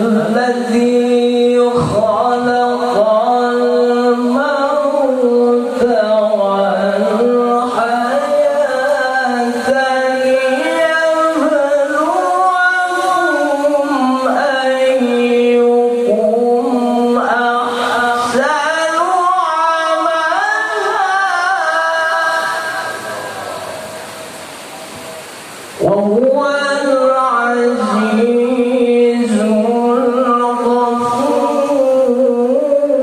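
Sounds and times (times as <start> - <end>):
person chanting melodically: 0.0 - 33.0.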